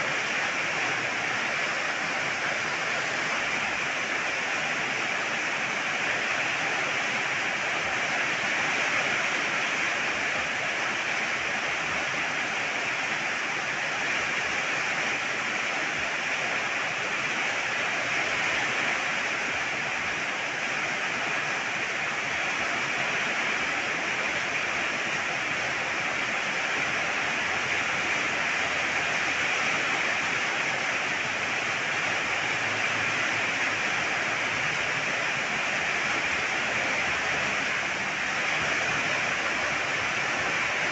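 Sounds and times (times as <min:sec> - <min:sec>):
steady pouring rain: 0:00.0 - 0:40.9.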